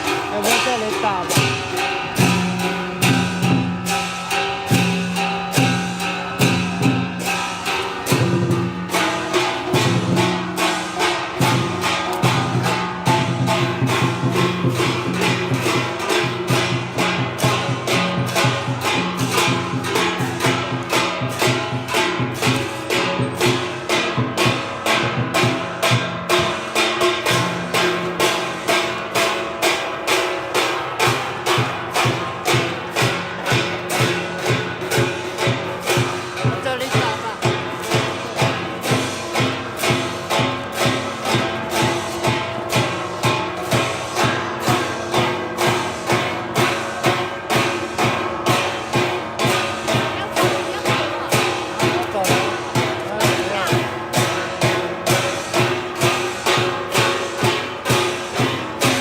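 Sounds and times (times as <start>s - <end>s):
music with percussive beat: 0.0s - 59.0s.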